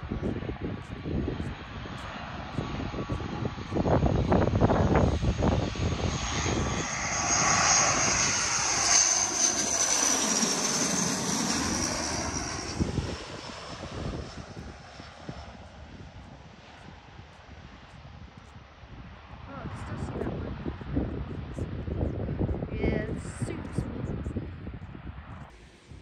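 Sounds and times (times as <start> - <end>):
low rumbling gusts: 0.0 - 26.0
turboprop plane passing overhead: 0.0 - 26.0.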